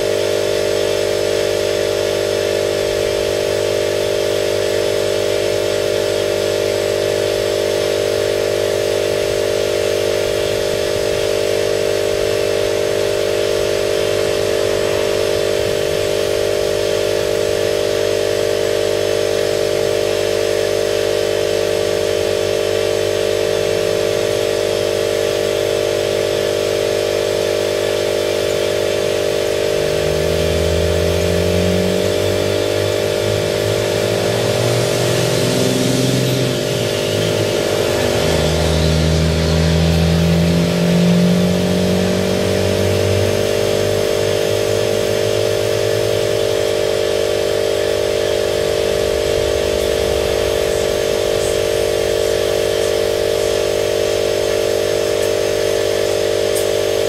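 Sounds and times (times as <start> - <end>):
engine revving: 0.0 - 57.0
motor humming: 0.0 - 57.0.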